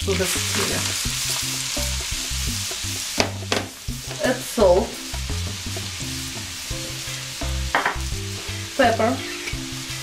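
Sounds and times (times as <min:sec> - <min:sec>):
vegetables sizzling in a skillet: 0:00.0 - 0:10.0.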